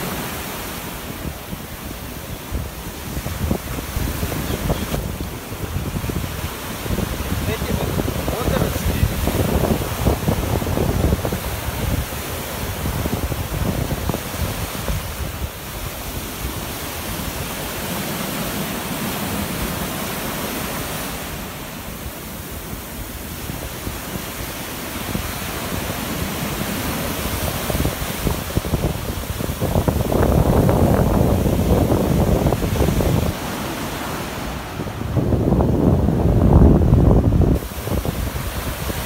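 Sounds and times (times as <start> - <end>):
wind buffeting microphone: 0.0 - 18.0, 21.0 - 39.0
surf breaking on a beach: 0.0 - 39.0.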